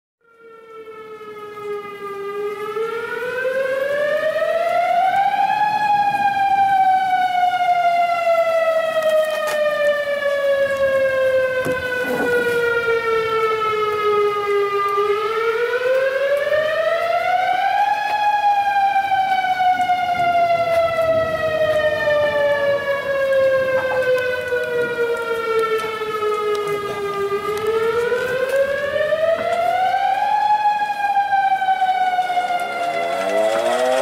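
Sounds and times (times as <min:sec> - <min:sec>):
warning siren wailing: 0:00.2 - 0:34.0.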